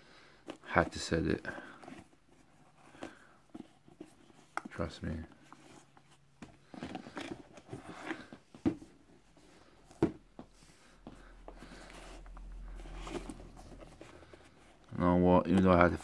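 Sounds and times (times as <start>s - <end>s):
rustling and scraping of shoebox: 0.3s - 16.0s.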